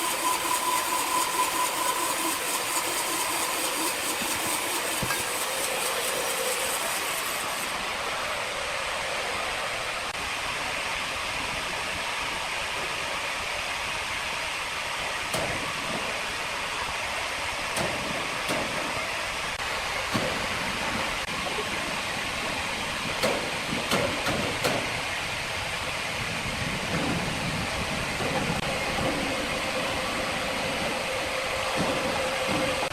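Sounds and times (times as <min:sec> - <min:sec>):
sawmill machinery hissing: 0:00.0 - 0:10.7, 0:11.4 - 0:32.9.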